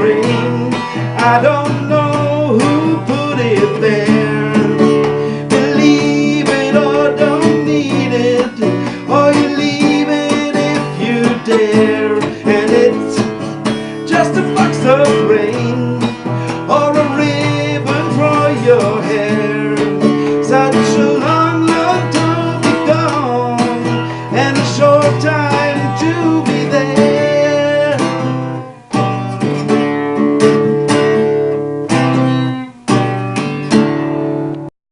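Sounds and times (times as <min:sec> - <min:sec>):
acoustic guitar strumming: 0:00.0 - 0:34.7.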